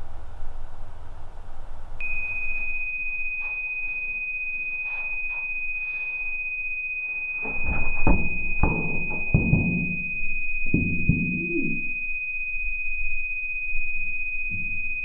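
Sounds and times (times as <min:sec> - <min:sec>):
high-pitched electronic tone: 0:02.0 - 0:15.0.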